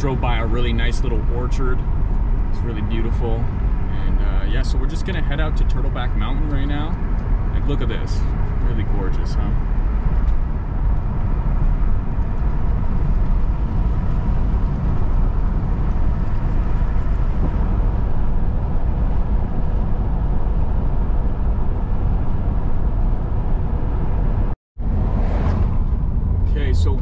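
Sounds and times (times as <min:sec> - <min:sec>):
engine and tyre rumble: 0:00.0 - 0:27.0.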